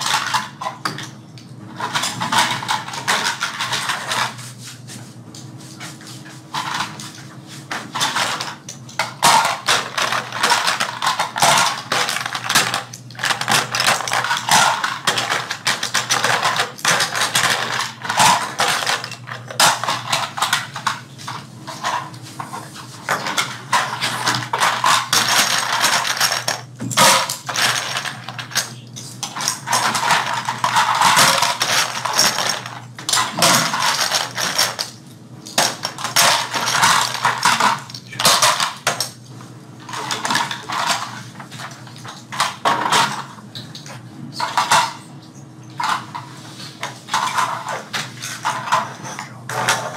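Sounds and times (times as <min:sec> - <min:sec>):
small hard parts clattering: 0:00.0 - 0:04.4, 0:06.5 - 0:39.2, 0:39.8 - 0:49.9.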